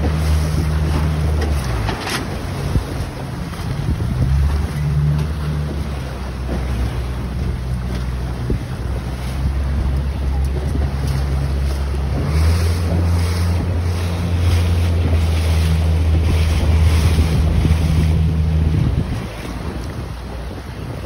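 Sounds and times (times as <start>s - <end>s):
outboard motor running: 0.0s - 21.0s
water rushing past hull: 0.0s - 21.0s
wind buffeting microphone: 0.0s - 21.0s.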